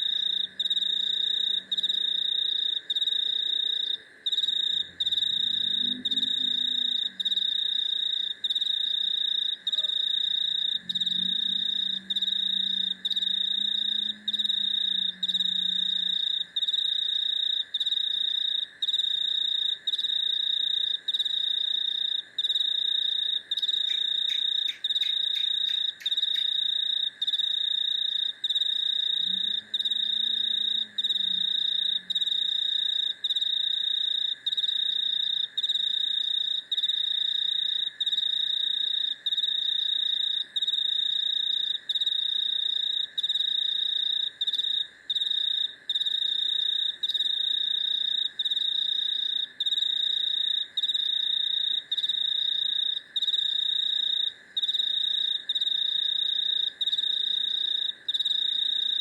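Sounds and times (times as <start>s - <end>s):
crickets and cicadas trilling: 0.0s - 59.0s.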